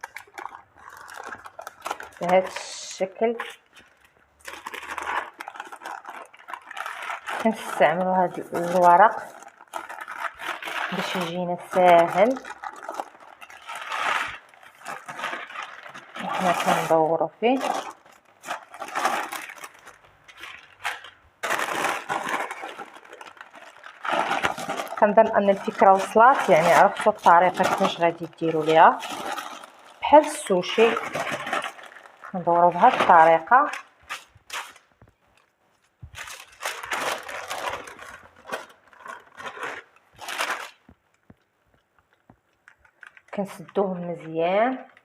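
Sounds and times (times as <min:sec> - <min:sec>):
baking paper rustling: 0:00.0 - 0:41.4.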